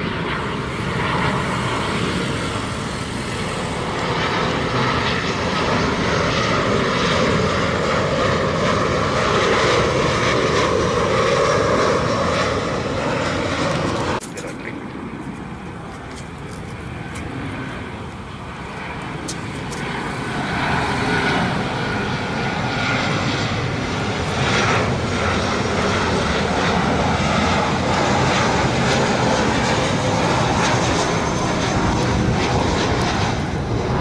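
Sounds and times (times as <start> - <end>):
jet engines rushing drone: 0.0 - 34.0.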